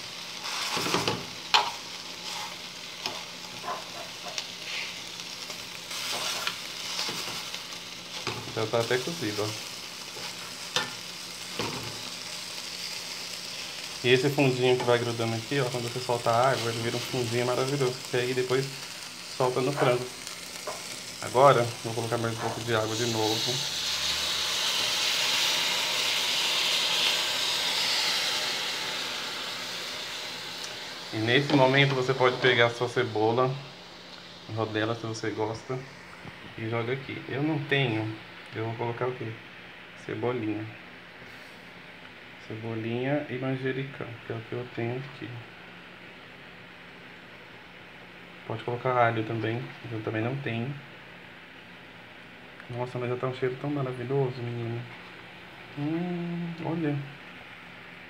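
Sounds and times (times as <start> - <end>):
chicken sizzling in a frying pan: 0.0 - 40.7, 42.8 - 58.0.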